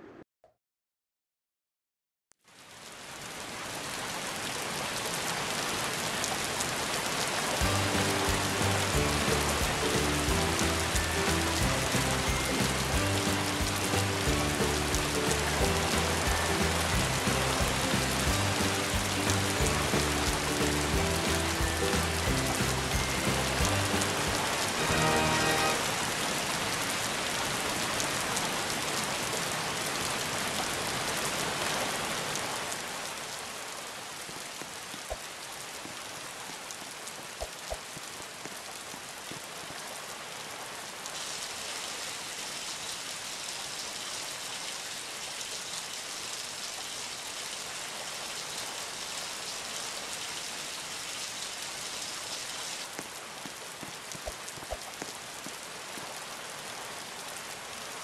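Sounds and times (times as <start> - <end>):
falling water hiss: 5.6 - 58.0.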